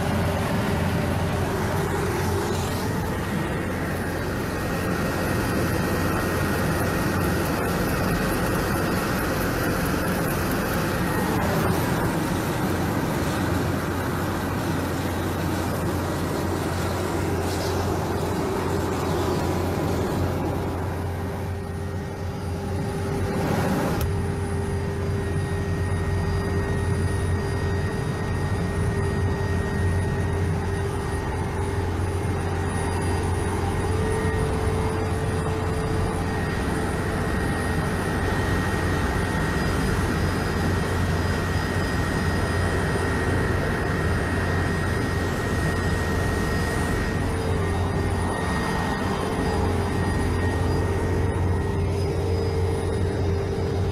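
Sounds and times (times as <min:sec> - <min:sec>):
helicopter engine and rotor drone: 0:00.0 - 0:53.9
thin high whine: 0:00.0 - 0:53.9.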